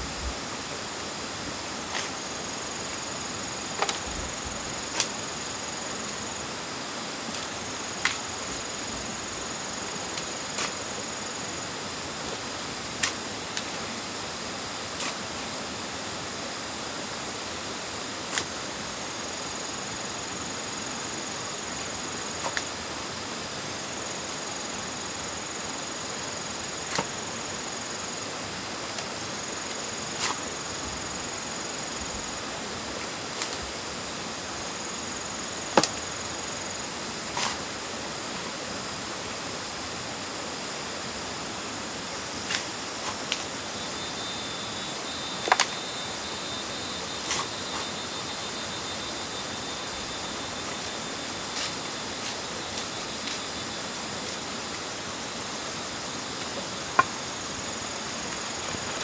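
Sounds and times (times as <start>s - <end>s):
faint high-pitched whines: 0.0s - 59.0s
steady high hiss: 0.0s - 59.0s.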